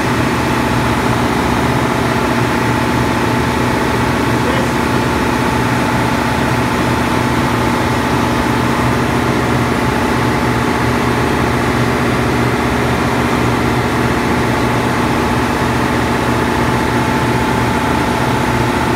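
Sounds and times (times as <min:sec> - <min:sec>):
diesel machinery running: 0:00.0 - 0:18.9.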